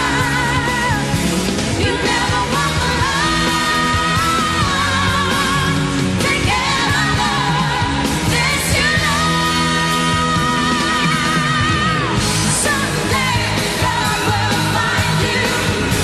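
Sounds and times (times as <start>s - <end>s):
band accompaniment: 0.0s - 16.0s
woman singing pop: 0.0s - 16.0s.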